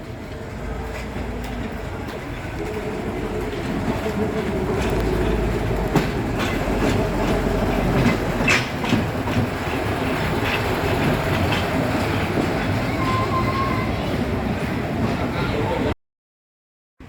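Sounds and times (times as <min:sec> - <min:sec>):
wheels clicking over rails: 0:00.0 - 0:15.9
train carriage rumbling: 0:00.0 - 0:16.0.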